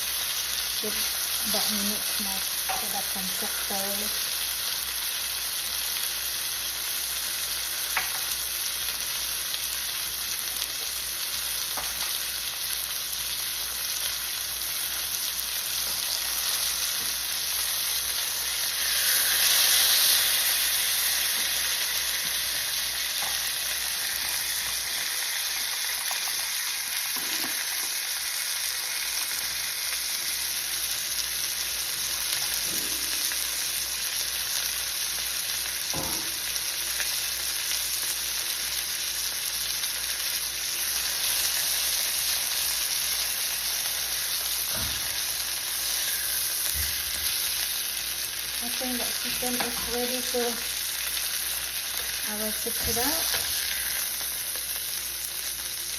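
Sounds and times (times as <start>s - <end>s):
chicken sizzling in a pan: 0.0s - 55.9s.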